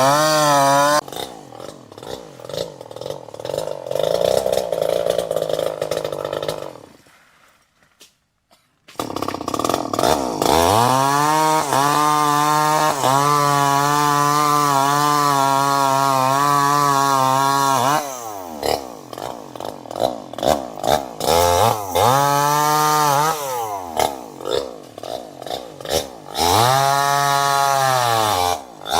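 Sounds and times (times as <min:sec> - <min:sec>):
chainsaw engine revving: 0:00.0 - 0:07.1, 0:08.9 - 0:28.9.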